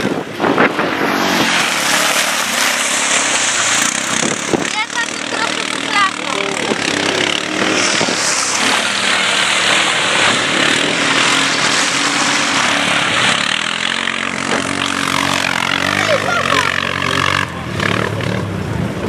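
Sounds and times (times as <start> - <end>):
atv engine revving hard: 0.0 - 19.0
wheels spinning in soil: 0.7 - 17.4.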